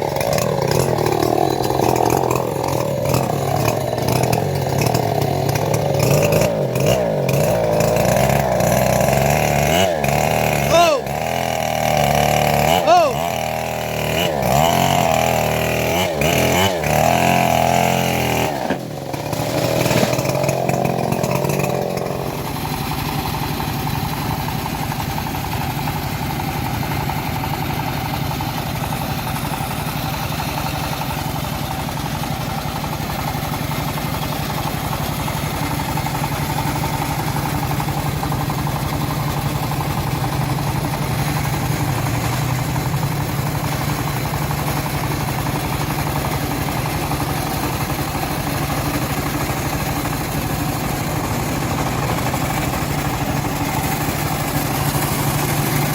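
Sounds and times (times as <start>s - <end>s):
saw mill engine droning: 0.0s - 55.9s.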